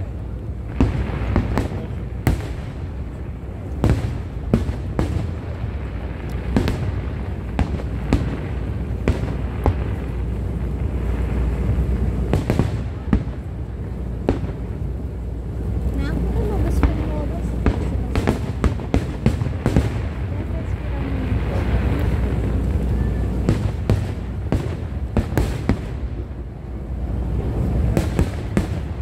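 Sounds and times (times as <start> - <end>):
firework bangs: 0.0 - 29.0
low rumble: 0.0 - 29.0.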